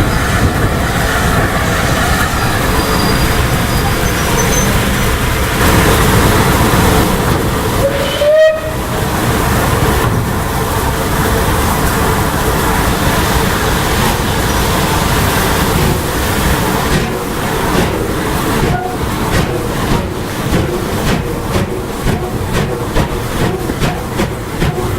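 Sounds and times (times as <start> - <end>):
train carriages rumbling on track: 0.0 - 24.9.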